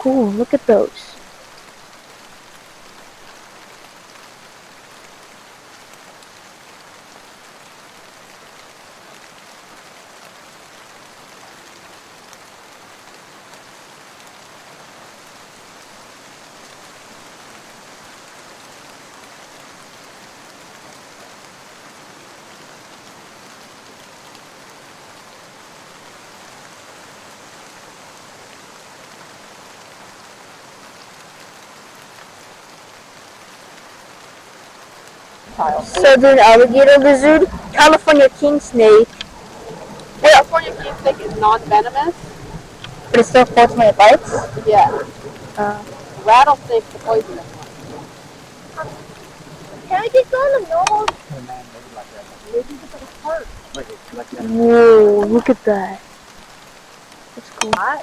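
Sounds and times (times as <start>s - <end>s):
stream water rushing: 0.0s - 32.6s, 33.2s - 58.0s.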